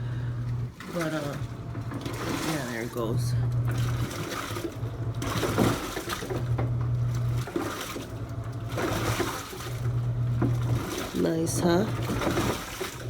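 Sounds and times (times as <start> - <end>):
washing machine motor humming: 0.0 - 13.0
water sloshing in tub: 0.0 - 13.0.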